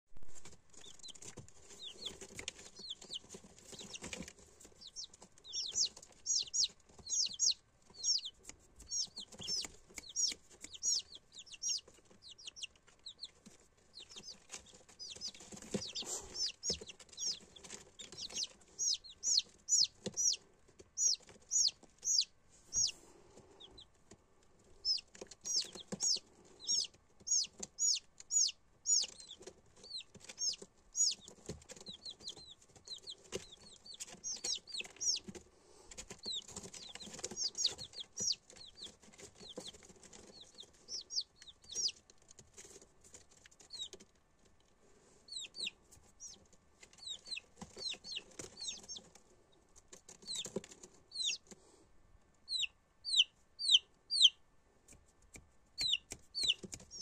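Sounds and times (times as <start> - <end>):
chicks peeping: 0.3 - 57.0.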